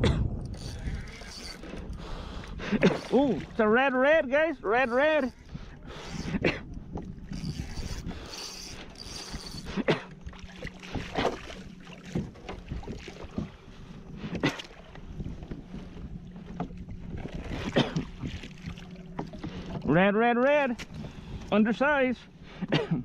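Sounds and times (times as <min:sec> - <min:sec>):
wind on microphone: 0:00.0 - 0:19.9
water sloshing and splashing: 0:00.0 - 0:23.0.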